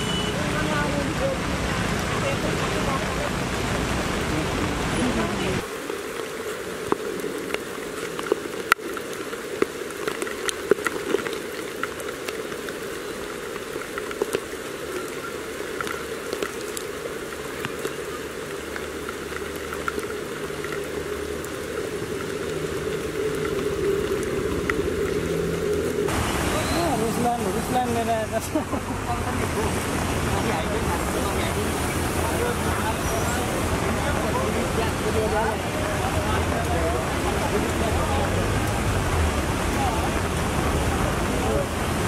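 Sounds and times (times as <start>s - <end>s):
rain falling steadily: 0.0s - 42.0s
raindrops clicking close by: 0.0s - 42.0s.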